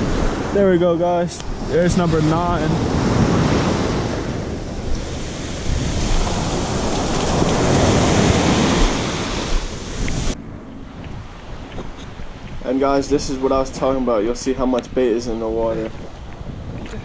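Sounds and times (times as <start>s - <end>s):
ocean surf washing over sand: 0.0s - 17.0s
wind on microphone: 0.0s - 17.0s.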